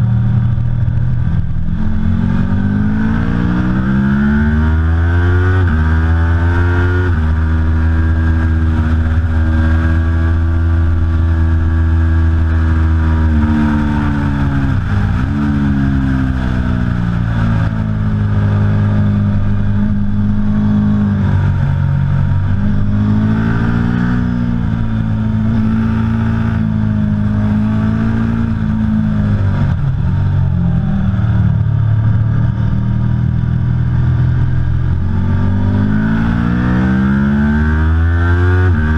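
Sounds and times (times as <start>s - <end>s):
motorcycle engine revving hard: 1.6s - 32.7s, 34.0s - 38.9s.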